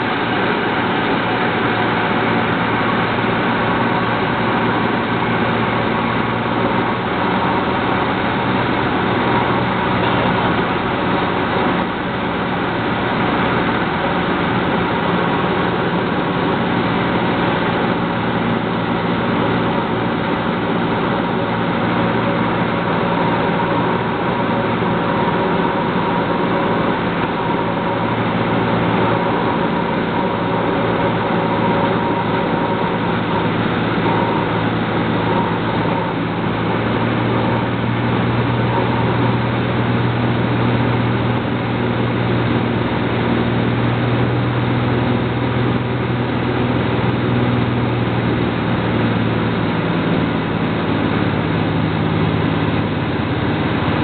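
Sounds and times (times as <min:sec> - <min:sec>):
propeller plane engine in cabin: 0:00.0 - 0:54.0.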